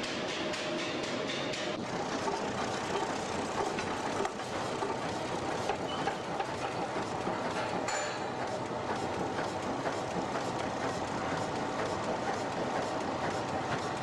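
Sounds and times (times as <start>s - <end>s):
machinery clatter and rumble: 0.0s - 14.0s.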